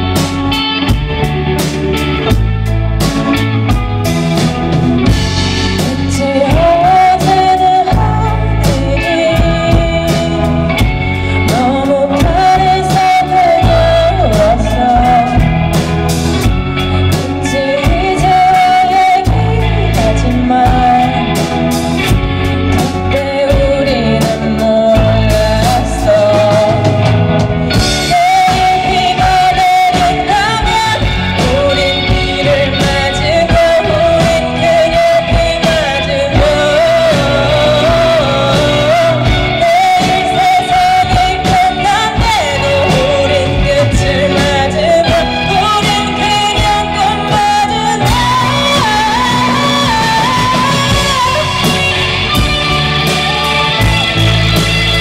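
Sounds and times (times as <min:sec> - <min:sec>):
bass guitar: 0:00.0 - 0:55.0
drum kit steady beat: 0:00.0 - 0:55.0
electric guitars: 0:00.0 - 0:55.0
keyboard: 0:00.0 - 0:55.0
rock band playing: 0:00.0 - 0:55.0
person singing long notes: 0:05.0 - 0:55.0.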